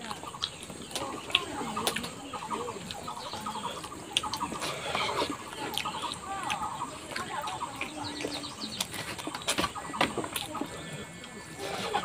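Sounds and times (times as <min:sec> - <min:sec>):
chickens clucking: 0:00.0 - 0:12.0
person chewing food: 0:00.0 - 0:12.0.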